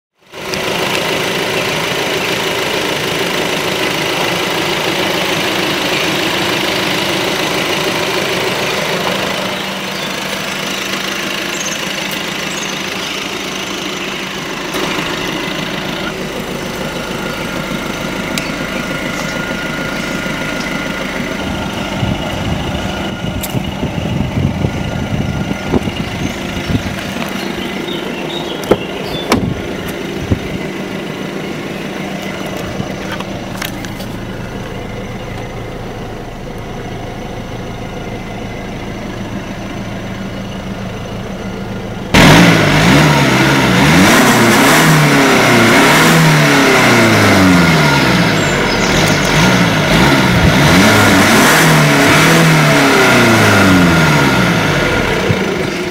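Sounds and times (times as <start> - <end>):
diesel engine idling: 0.2 - 55.9
engine revving: 0.3 - 55.9.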